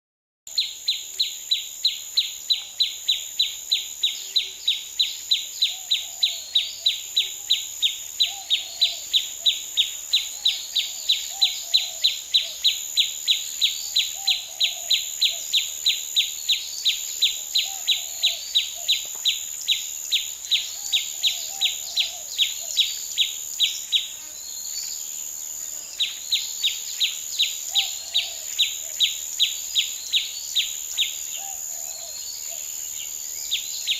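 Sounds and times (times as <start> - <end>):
crickets chirping: 0.5 - 33.9
faint bird calls: 2.5 - 19.5, 20.5 - 23.3, 26.0 - 33.9.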